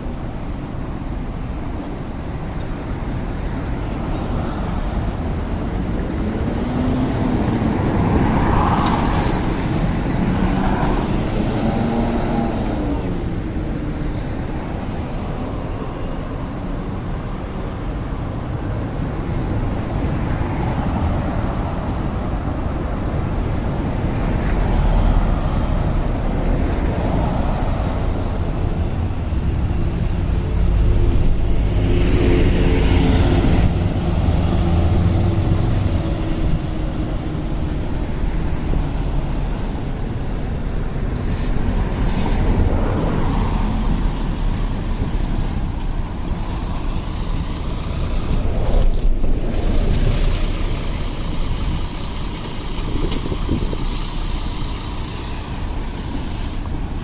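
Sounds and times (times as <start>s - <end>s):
city street traffic: 0.0s - 57.0s
vehicle engine passing close: 5.4s - 13.8s, 19.1s - 57.0s.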